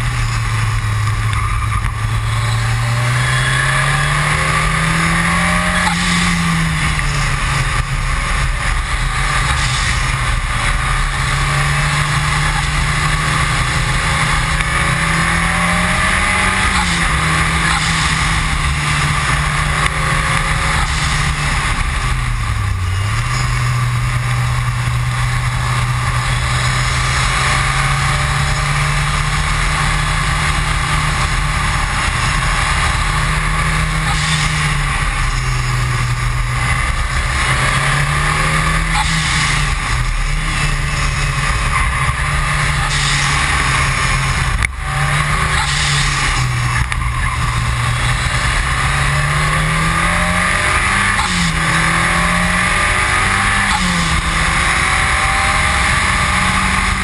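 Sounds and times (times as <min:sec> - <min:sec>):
race car engine at speed: 0:00.0 - 0:57.0
wind and tyre noise: 0:00.0 - 0:57.0.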